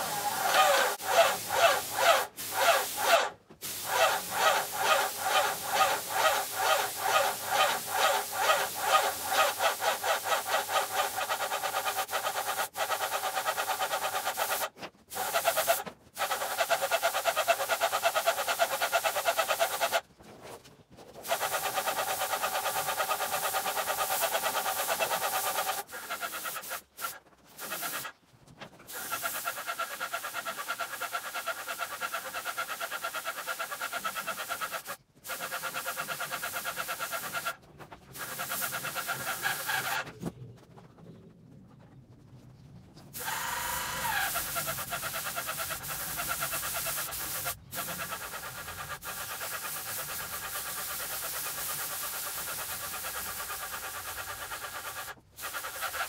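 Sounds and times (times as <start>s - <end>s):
paint sprayer pump pulsing: 0.0s - 20.0s, 21.2s - 28.2s, 28.9s - 40.1s, 43.2s - 56.0s.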